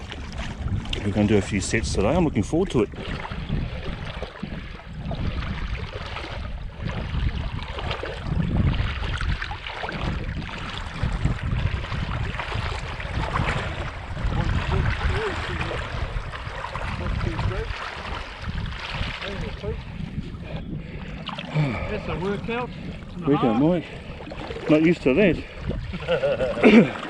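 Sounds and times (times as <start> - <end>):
legs wading through sea water: 0.0 - 27.0
water sloshing and splashing: 0.0 - 27.0.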